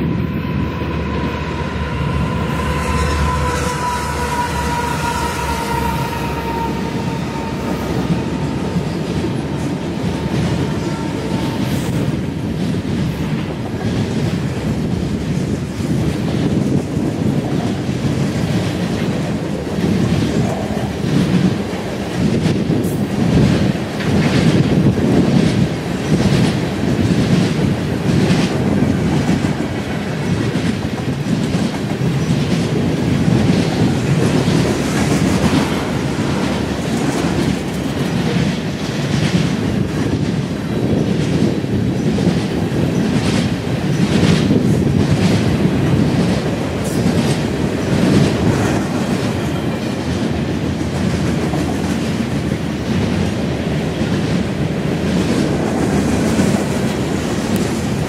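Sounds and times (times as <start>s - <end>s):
railroad cars rumbling past: 0.0s - 58.0s.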